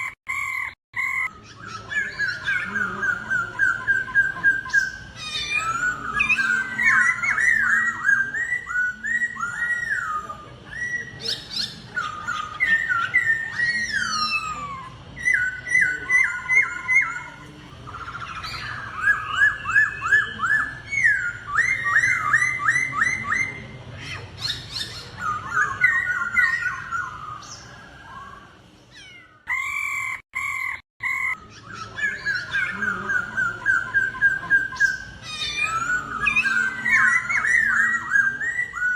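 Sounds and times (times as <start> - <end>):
birds singing whistled notes: 0.0 - 38.9.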